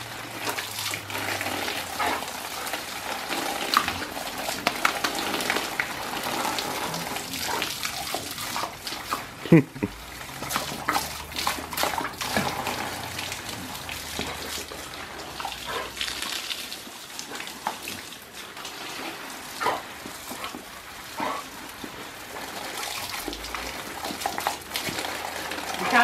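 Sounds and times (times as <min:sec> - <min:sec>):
hose spray pattering on bricks: 0:00.0 - 0:26.0
sharp splashes: 0:00.0 - 0:26.0.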